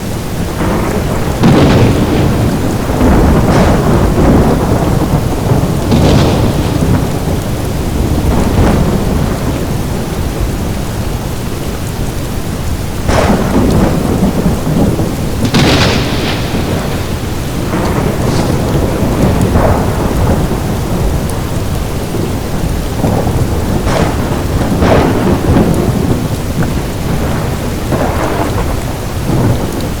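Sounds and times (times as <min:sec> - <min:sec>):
sharp thunder cracks: 0:00.0 - 0:12.1, 0:12.8 - 0:30.0
heavy rain: 0:00.0 - 0:30.0
low rumble of thunder: 0:00.0 - 0:30.0.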